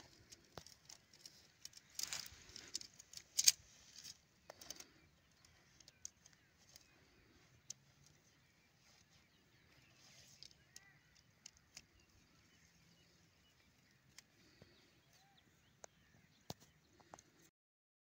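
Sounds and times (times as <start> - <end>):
tent poles clicking together: 0.0 - 17.4.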